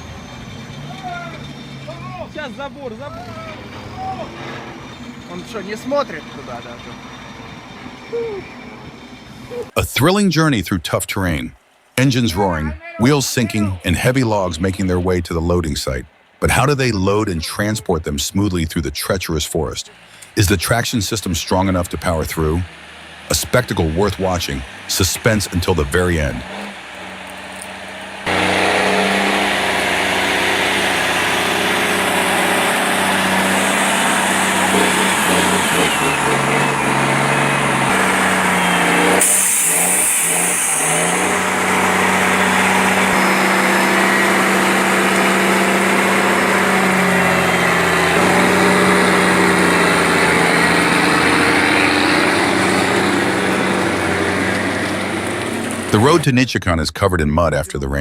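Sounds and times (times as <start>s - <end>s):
truck engines under load: 0.0s - 58.0s.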